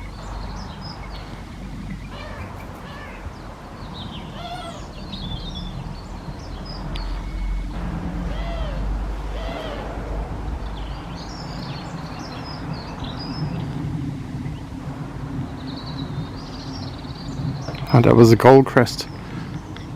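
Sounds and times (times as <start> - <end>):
high thin bird song: 0.0 - 19.9
lower arched bird calls: 0.0 - 19.9
small birds singing: 0.0 - 19.9
wind rumble on microphone: 0.0 - 19.9.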